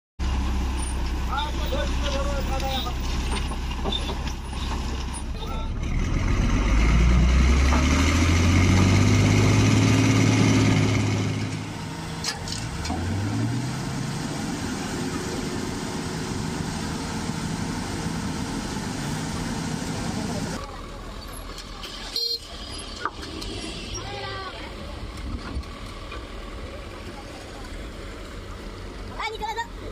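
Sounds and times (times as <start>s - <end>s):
ferry diesel engine: 0.2s - 29.9s
truck diesel engine revving: 0.2s - 29.9s.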